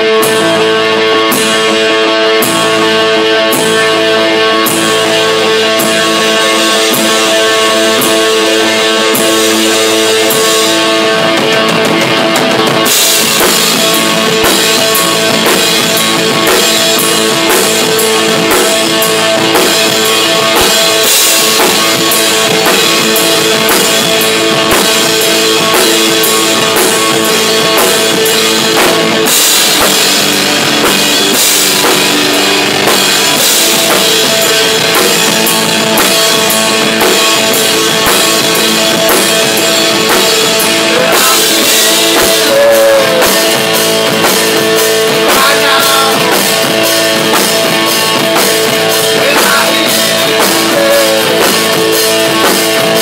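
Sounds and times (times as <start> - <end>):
bass guitar: 0.0 - 53.0
drum kit with cymbals: 0.0 - 53.0
electric guitar: 0.0 - 53.0.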